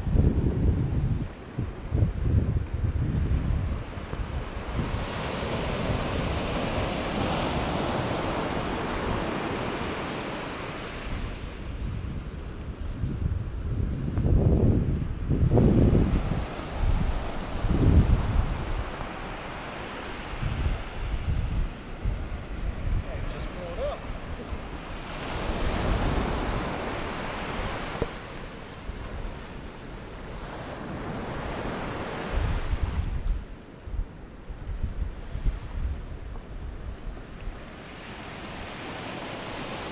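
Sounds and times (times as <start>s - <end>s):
waves breaking on beach: 0.0s - 39.9s
wind buffeting microphone: 0.0s - 39.9s.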